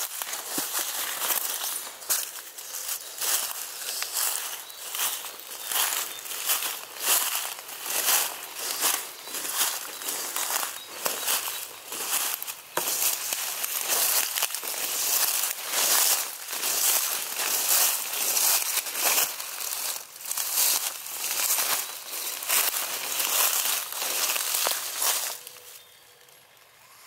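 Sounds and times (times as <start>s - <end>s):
leaves rustling against legs: 0.0s - 27.0s.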